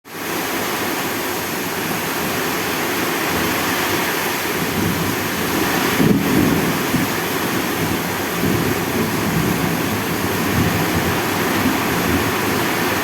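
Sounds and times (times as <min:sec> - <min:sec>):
water rushing: 0:00.1 - 0:13.0.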